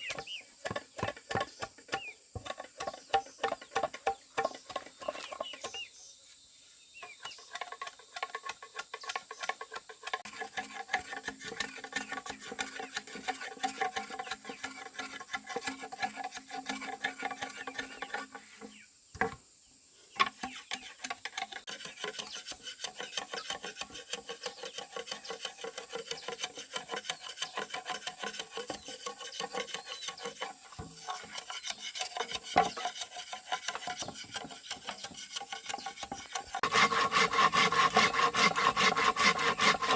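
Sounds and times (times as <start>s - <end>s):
hand tool rasping on wood: 0.0s - 5.8s, 7.0s - 18.7s, 20.4s - 39.9s.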